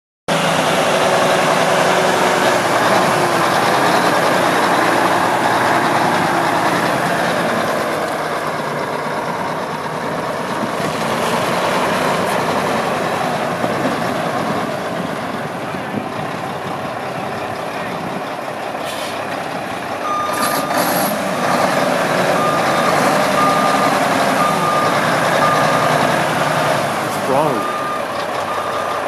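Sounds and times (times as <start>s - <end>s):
diesel truck engine idling: 0.5s - 29.0s.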